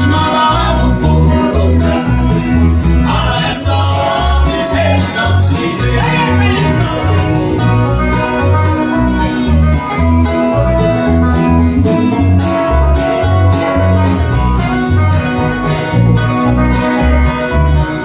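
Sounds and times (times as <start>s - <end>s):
banjo picking: 0.0s - 18.0s
guitar picking: 0.0s - 18.0s
steady bass line: 0.0s - 18.0s.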